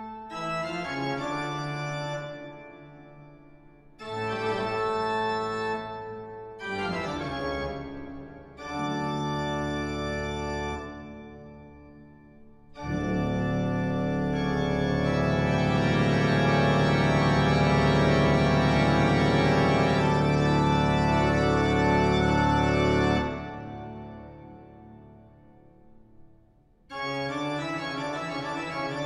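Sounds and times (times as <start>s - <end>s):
sustained organ chord: 0.0s - 12.1s, 12.7s - 25.5s, 26.9s - 29.0s.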